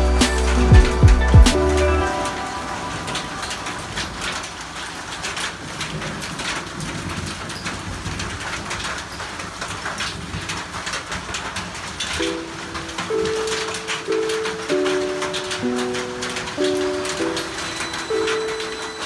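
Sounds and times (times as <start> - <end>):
hailstones clicking on surfaces: 0.0 - 19.0
rain-like hiss: 0.0 - 19.0.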